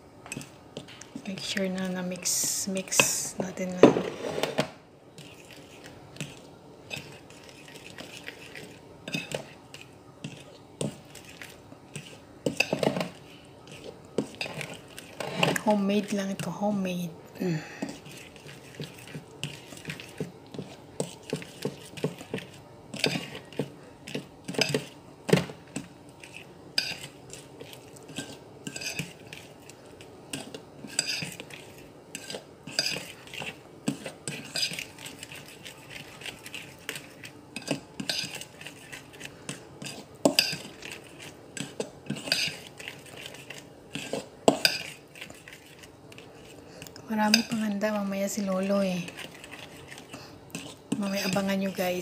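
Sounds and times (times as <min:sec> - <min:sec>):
metal spoon stirring batter: 0:00.3 - 0:03.8, 0:05.1 - 0:52.0.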